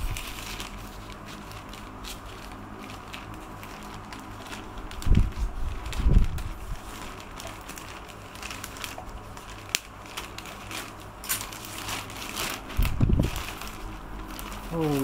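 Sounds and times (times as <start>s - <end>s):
plastic rustling: 0.0s - 15.0s.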